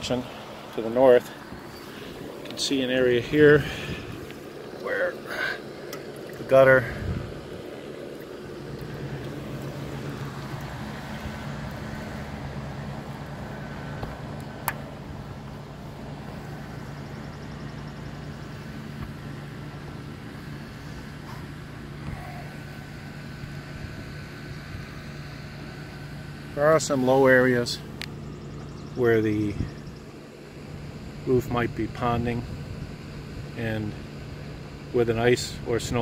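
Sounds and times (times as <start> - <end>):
machine hum with faint whine: 0.0 - 36.0.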